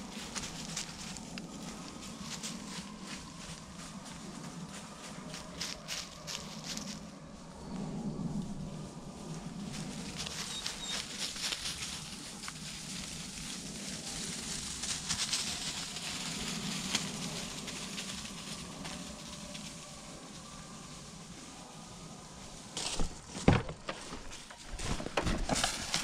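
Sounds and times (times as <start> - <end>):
footsteps crunching dry leaves: 0.0 - 7.2, 9.2 - 21.4, 22.4 - 26.0.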